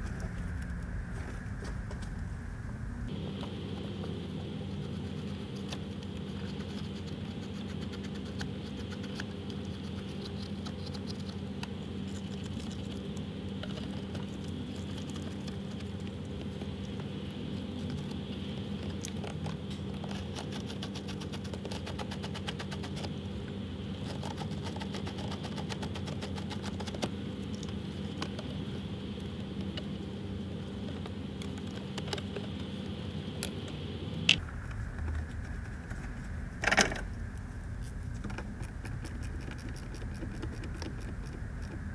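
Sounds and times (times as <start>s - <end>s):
steady background hum: 0.0s - 41.9s.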